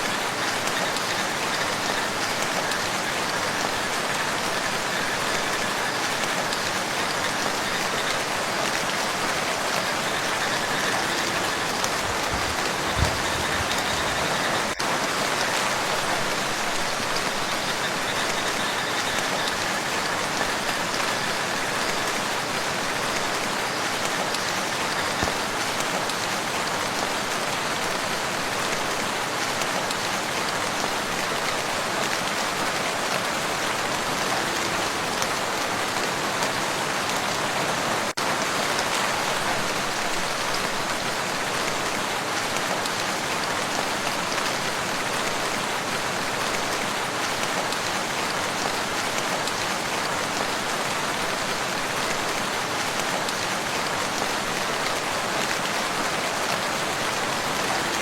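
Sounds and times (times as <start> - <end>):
rain falling on a lake: 0.0 - 58.0.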